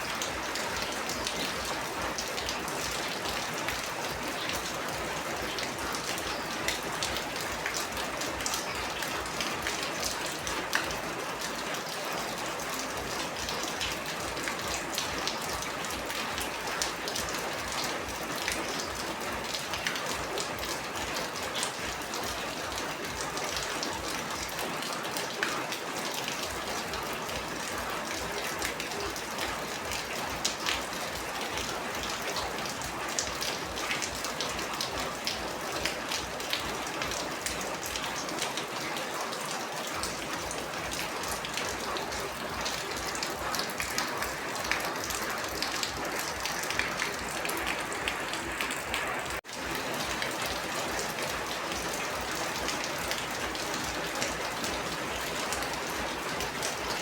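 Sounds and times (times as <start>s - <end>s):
heavy rain: 0.0s - 57.0s
raindrops ticking on a surface: 0.0s - 57.0s.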